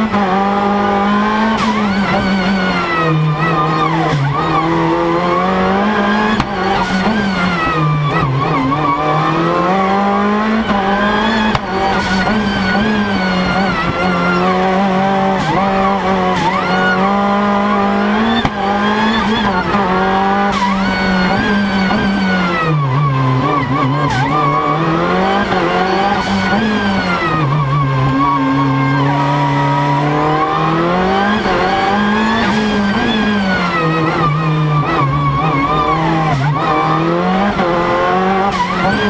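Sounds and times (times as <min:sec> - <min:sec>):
race car engine under load: 0:00.0 - 0:39.0.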